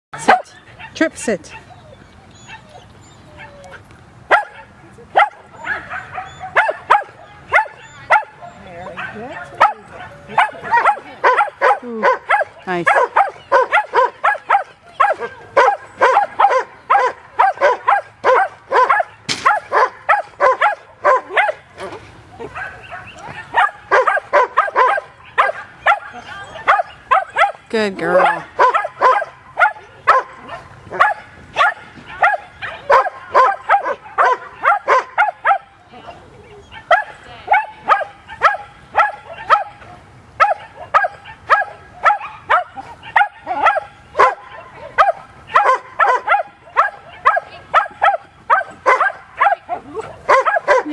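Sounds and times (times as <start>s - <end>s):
dog barking: 0.2s - 1.8s, 4.3s - 21.6s, 22.5s - 27.6s, 28.2s - 35.7s, 36.7s - 50.9s.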